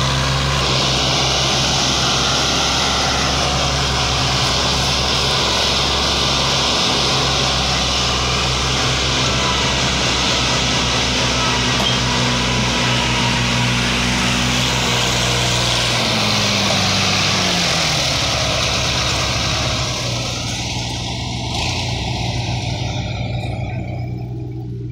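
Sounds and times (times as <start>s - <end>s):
diesel tractor engines under load: 0.0s - 24.9s.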